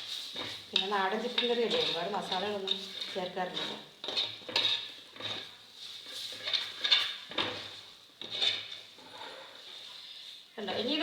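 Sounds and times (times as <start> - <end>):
spoon scraping a pan: 0.0 - 11.0.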